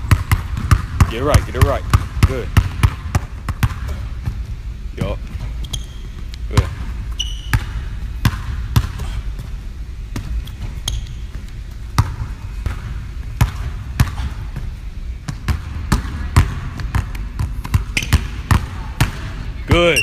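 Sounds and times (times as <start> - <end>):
basketball bouncing on wooden floor: 0.0 - 9.5, 10.1 - 19.3.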